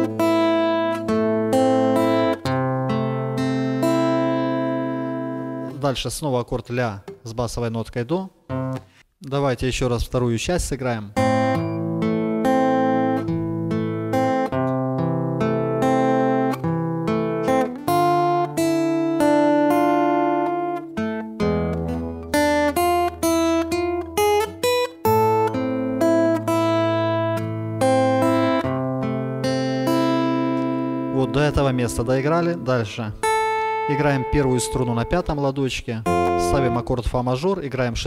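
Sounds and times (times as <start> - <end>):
fingerpicked acoustic guitar: 0.0 - 5.8, 8.5 - 9.0, 11.2 - 37.1.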